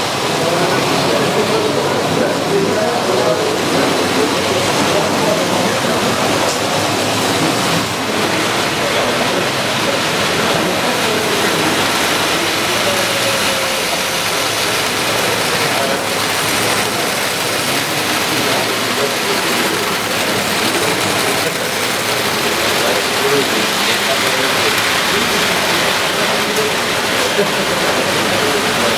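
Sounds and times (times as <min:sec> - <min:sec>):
model train running on track: 0:00.0 - 0:28.9
murmur of voices: 0:00.0 - 0:28.9.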